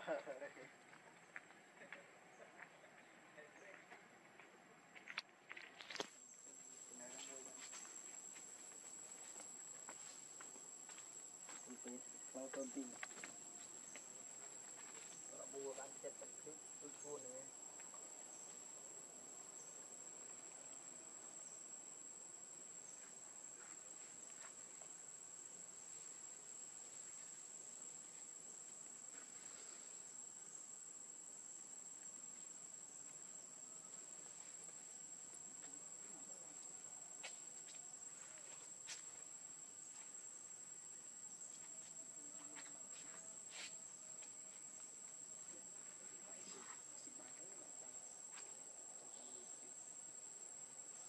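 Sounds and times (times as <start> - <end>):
insect chirring: 5.0 - 51.0.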